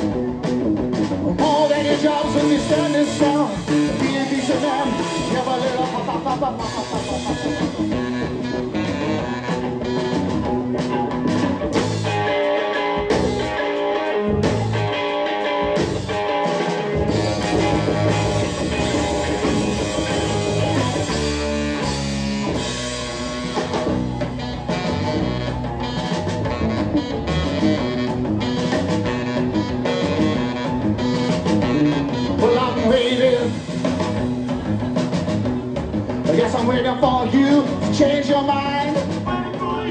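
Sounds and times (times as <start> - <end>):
electric guitar lead: 0.0 - 39.9
rockabilly band playing: 0.0 - 39.9.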